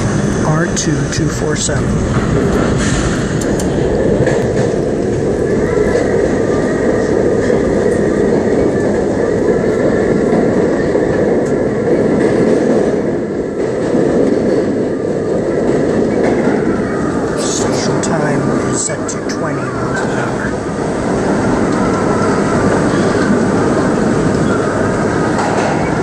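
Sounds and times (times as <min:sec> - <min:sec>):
subway wheels rumbling on rail: 0:00.0 - 0:26.0.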